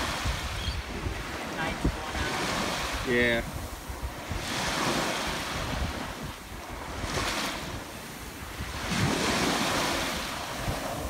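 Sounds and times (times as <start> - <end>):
surf washing over sand: 0.0 - 11.0
wind buffeting microphone: 0.0 - 11.0.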